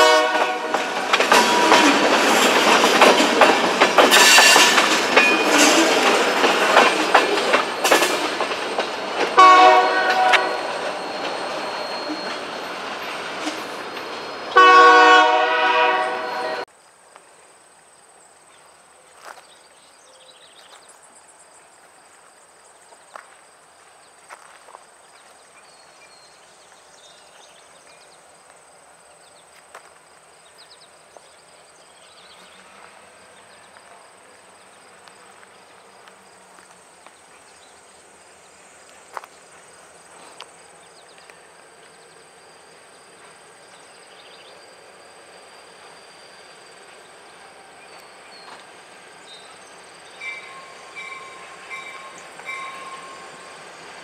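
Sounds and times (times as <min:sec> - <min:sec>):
insects trilling: 0:00.0 - 0:14.7, 0:16.2 - 0:54.0.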